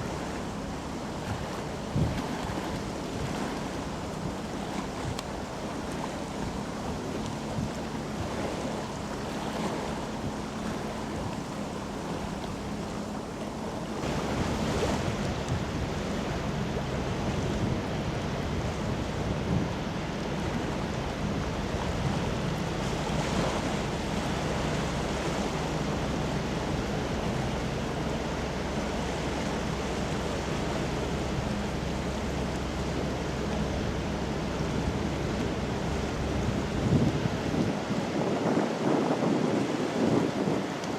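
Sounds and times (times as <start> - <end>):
faint low ship engine hum: 0.0 - 40.9
wind buffeting microphone: 0.0 - 40.9.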